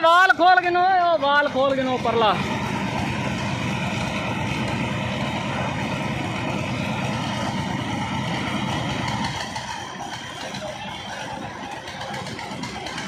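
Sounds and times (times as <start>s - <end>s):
concrete mixer engines running: 0.0s - 13.0s.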